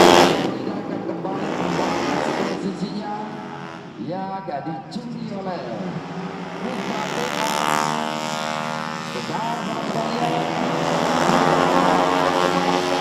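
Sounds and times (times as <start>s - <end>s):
scooter engines revving past: 0.0s - 4.0s, 5.6s - 13.0s.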